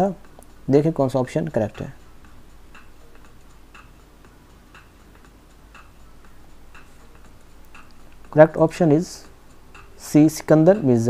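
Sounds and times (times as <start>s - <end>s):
clock ticking: 0.0s - 11.0s.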